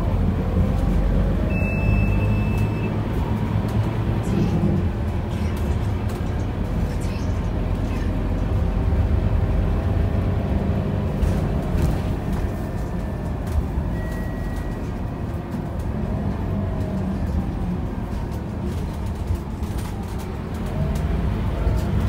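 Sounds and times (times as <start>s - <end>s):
bus engine running: 0.0s - 22.0s
road noise: 0.0s - 22.0s.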